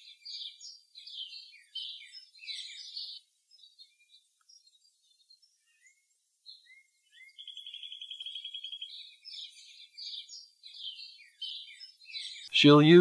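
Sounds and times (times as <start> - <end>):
bird trill: 0.0 - 13.0
songbirds chirping: 0.0 - 13.0.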